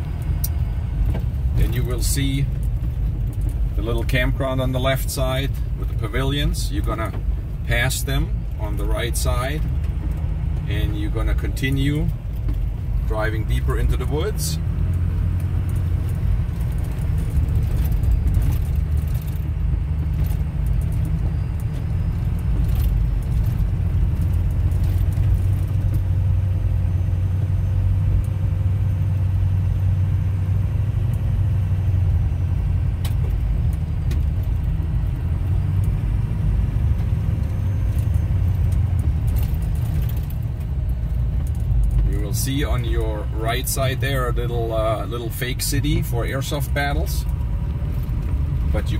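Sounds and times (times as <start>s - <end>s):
vehicle driving on gravel road: 0.0s - 48.9s.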